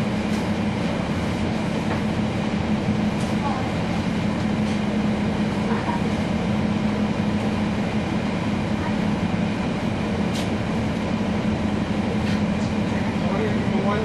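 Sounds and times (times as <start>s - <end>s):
bus diesel engine humming: 0.0s - 14.0s.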